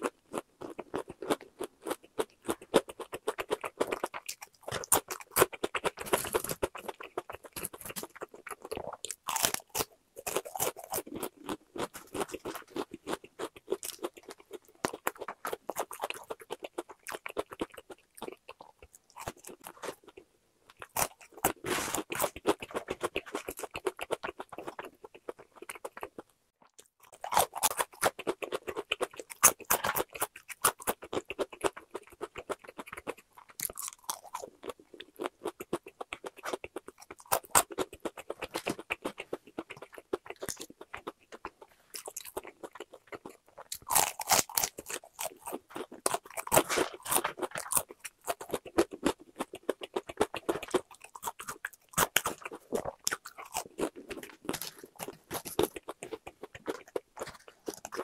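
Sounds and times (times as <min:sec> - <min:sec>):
chewing crispy fried chicken: 0:00.0 - 0:58.0.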